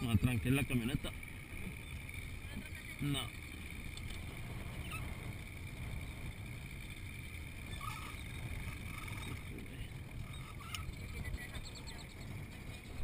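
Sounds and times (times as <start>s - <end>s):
motorboat engine rumble: 0.0s - 13.0s.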